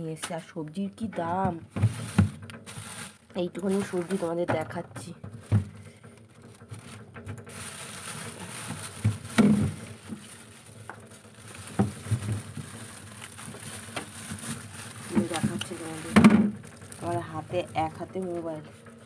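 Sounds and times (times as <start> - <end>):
plastic bags rustling: 0.8 - 19.0.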